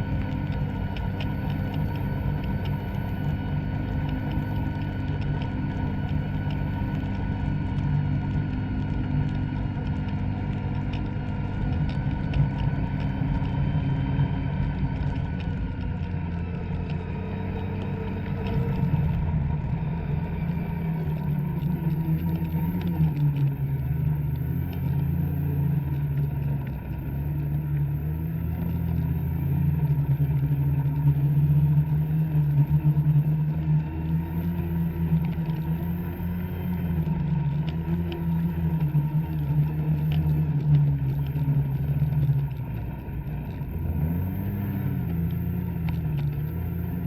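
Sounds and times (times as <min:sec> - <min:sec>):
snowmobile engine running: 0:00.0 - 0:47.0.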